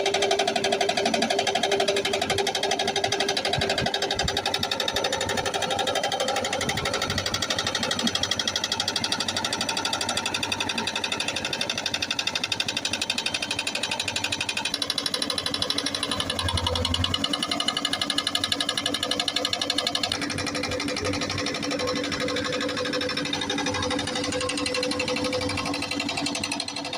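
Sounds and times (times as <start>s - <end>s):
excavator engine running: 0.0s - 26.9s
hydraulic breaker hammering stone: 0.0s - 26.9s.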